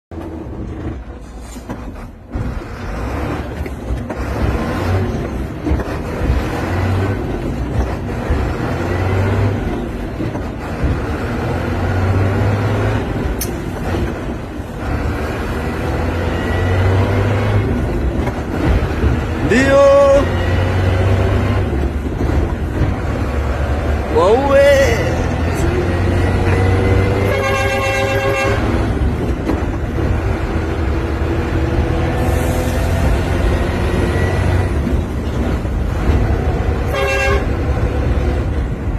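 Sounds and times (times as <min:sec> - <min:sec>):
truck diesel engine revving: 0:00.2 - 0:38.9.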